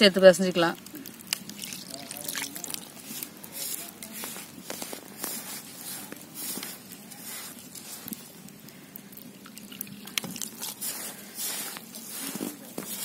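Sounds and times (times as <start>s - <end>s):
hand squishing damp flour: 0.5s - 13.0s
water pouring from a bottle: 0.7s - 13.0s.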